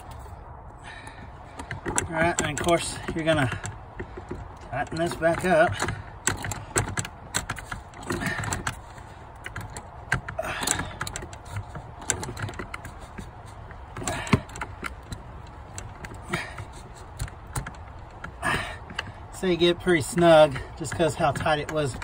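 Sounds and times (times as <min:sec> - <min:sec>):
hand ratchet clicking: 0:01.0 - 0:22.0.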